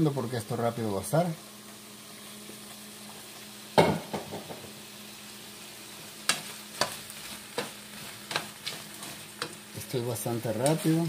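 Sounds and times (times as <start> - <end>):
food sizzling in skillet: 0.0 - 11.0.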